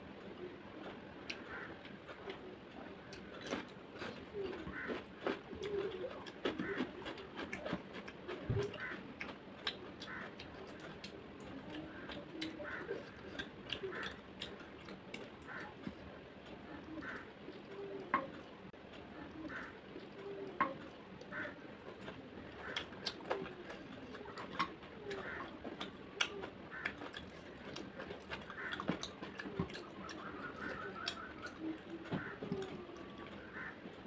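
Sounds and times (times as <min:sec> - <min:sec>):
wet chewing smacks: 0:03.0 - 0:33.8.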